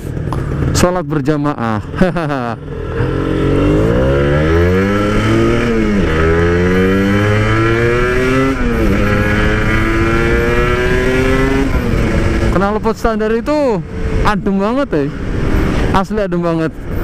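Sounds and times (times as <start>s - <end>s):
two-stroke motorcycle accelerating: 0.0s - 17.0s.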